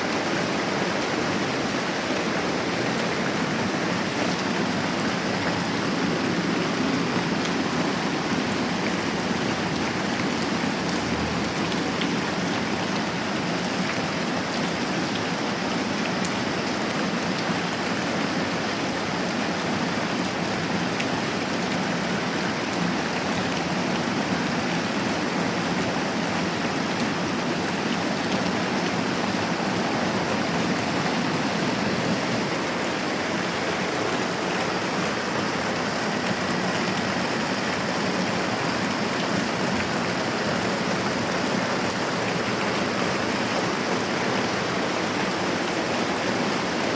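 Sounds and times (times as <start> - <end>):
moderate rain falling: 0.0 - 46.9.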